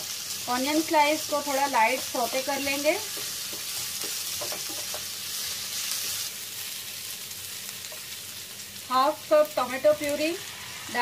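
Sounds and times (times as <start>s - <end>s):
onions sizzling in frying pan: 0.0s - 11.0s.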